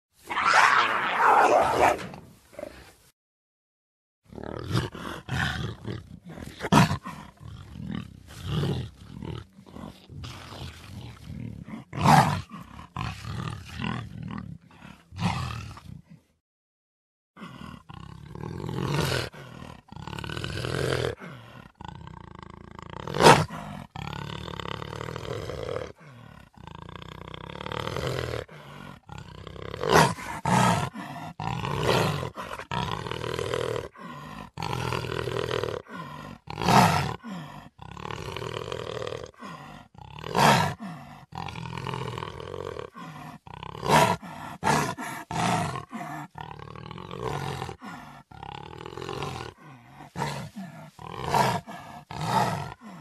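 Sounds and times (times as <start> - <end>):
jaguar roaring: 4.3 - 15.9, 17.4 - 53.0.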